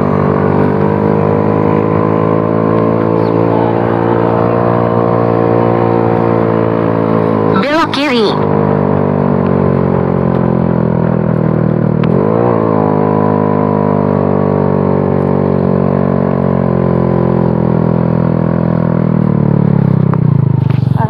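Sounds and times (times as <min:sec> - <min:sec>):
motorcycle engine under throttle: 0:00.0 - 0:21.0.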